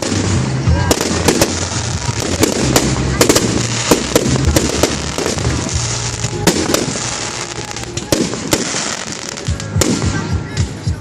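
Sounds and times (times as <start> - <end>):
firework shells bursting: 0.0 - 10.2
firework crackling hiss: 0.0 - 11.0.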